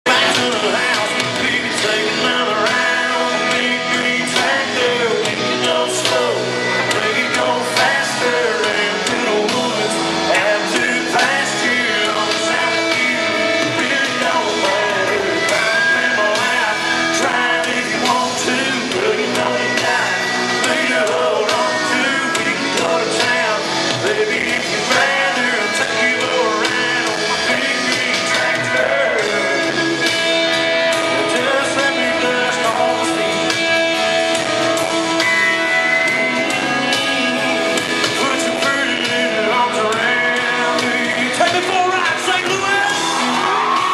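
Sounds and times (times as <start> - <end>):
drums: 0.0 - 43.9
electric guitar: 0.0 - 43.9
man singing: 0.0 - 43.9
strummed acoustic guitar: 0.1 - 43.9.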